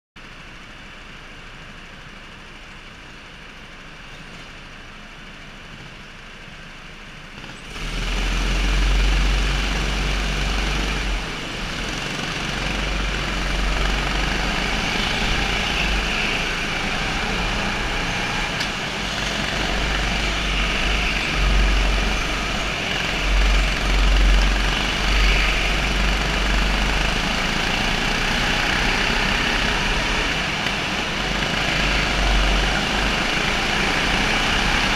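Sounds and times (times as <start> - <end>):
go-kart engine running: 0.2 - 34.9.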